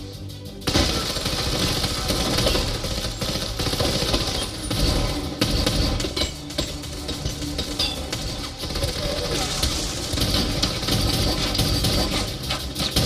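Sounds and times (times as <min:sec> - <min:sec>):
rapid crackling hits: 0:00.6 - 0:13.0.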